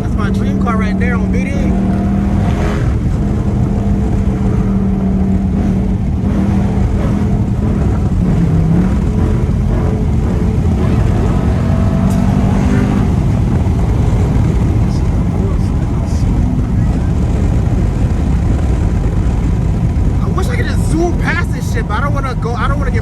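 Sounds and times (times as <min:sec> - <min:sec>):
straight-piped exhaust droning: 0:00.0 - 0:23.0.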